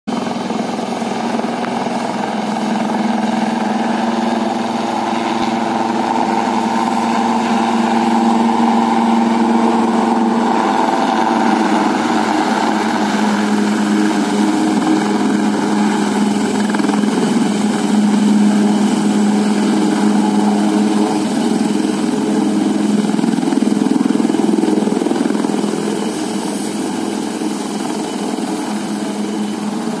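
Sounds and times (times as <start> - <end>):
helicopter rotor and engine: 0.1 - 30.0.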